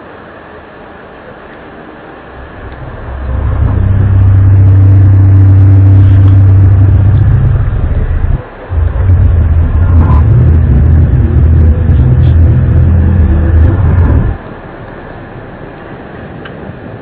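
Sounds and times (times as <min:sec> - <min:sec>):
low droning rumble with hum: 0:00.0 - 0:17.0.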